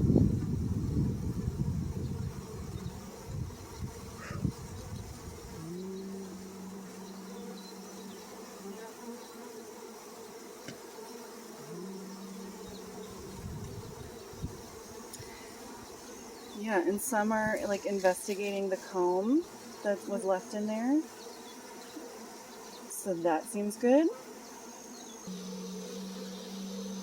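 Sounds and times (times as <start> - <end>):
bees buzzing around a hive: 0.0 - 27.0
single bee humming close: 0.0 - 27.0.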